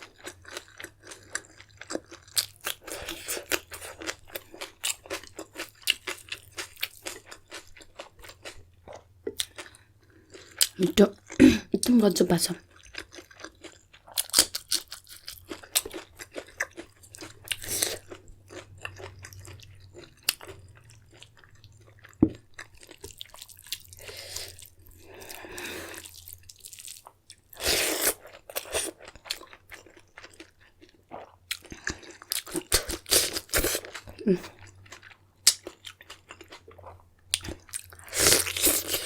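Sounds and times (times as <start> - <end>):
chewing and crunching food: 0.0 - 39.0.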